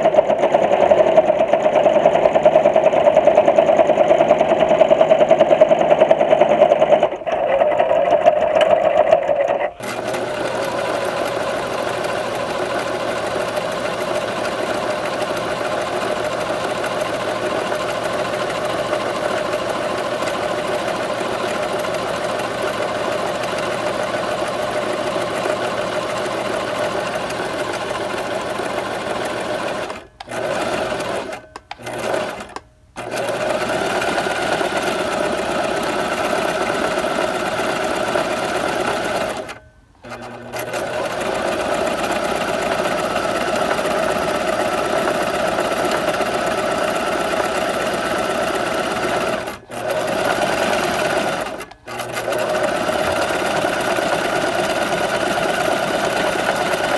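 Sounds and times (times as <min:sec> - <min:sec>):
sewing machine running: 0:00.0 - 0:56.9.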